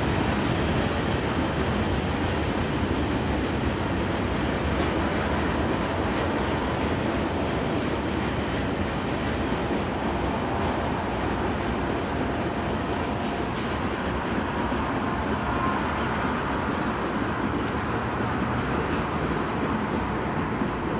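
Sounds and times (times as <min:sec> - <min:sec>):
steel wheels on track: 0:00.0 - 0:20.9.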